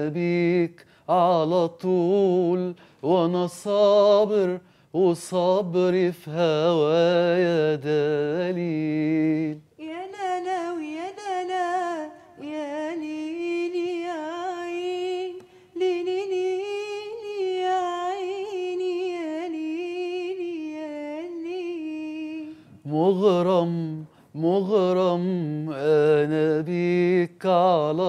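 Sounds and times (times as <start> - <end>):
woman singing unaccompanied: 0.0 - 28.0.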